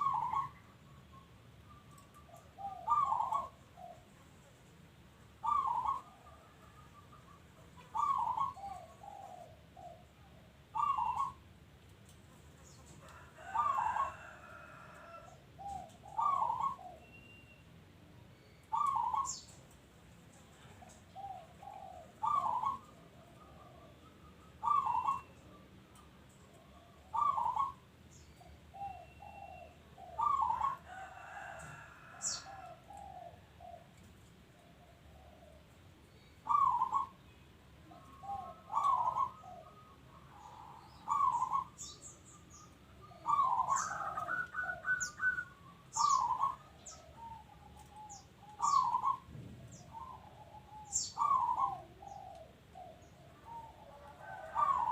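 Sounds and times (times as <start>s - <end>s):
dove cooing: 0.0s - 0.9s, 1.8s - 4.5s, 5.4s - 11.6s, 12.3s - 17.2s, 18.7s - 19.7s, 20.3s - 54.9s.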